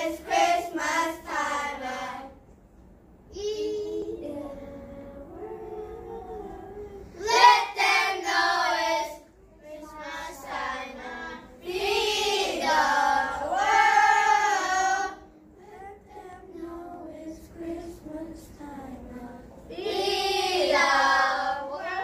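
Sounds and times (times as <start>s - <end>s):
children singing together: 0.0s - 2.4s, 3.4s - 22.0s.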